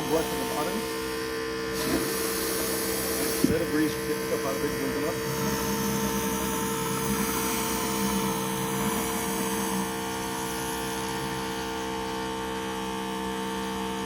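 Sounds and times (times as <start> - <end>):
pressure washer motor humming: 0.0 - 14.0.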